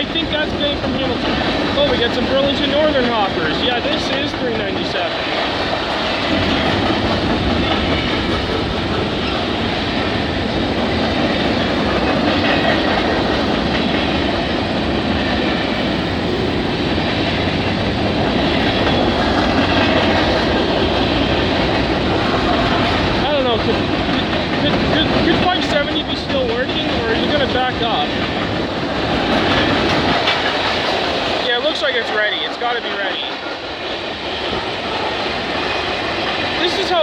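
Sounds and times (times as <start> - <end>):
freight train rolling past: 0.0 - 37.0
train cars clacking over rail joints: 0.0 - 37.0.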